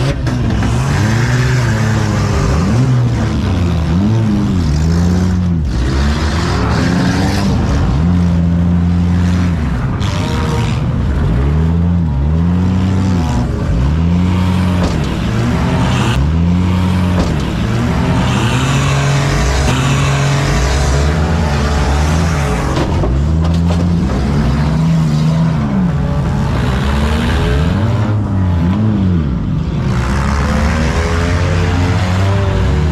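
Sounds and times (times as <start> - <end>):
car engines revving hard: 0.0 - 32.9.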